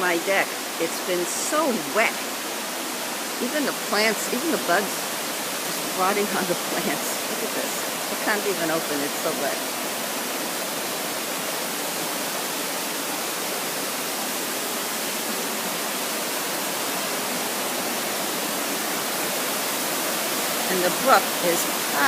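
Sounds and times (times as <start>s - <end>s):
brook water rushing: 0.0s - 22.0s.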